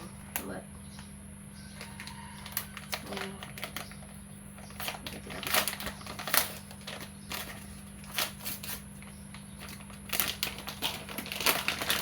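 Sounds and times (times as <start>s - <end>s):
packaging rustling: 1.8s - 12.0s.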